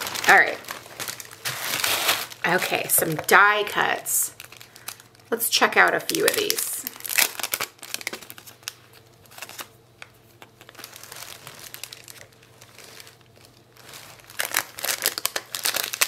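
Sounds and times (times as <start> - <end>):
cellophane and paper crinkling: 0.0 - 16.0.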